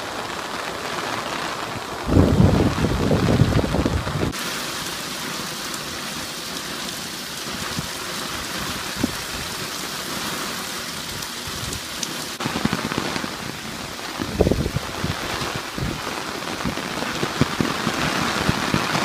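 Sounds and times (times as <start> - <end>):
rain falling on lawn: 0.0 - 19.0
downspout water splashing on concrete: 2.0 - 19.0.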